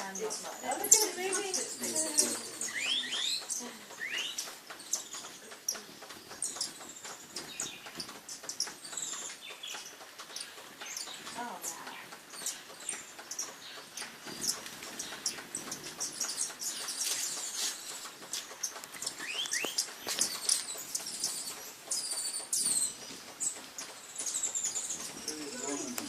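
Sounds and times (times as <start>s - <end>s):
hummingbirds chattering: 0.0s - 26.0s.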